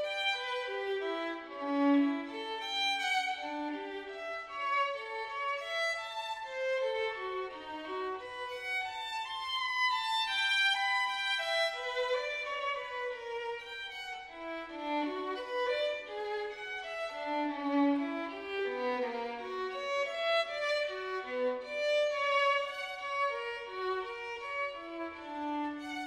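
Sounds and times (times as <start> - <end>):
violin melody: 0.0 - 26.0.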